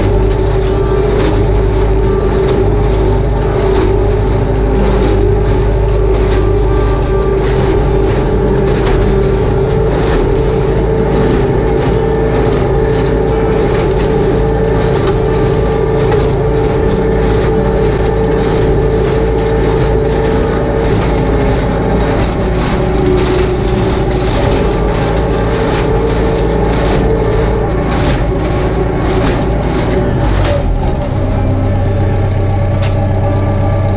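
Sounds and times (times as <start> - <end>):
hay equipment clatter: 0.0 - 33.9
tractor engine running: 0.0 - 33.9.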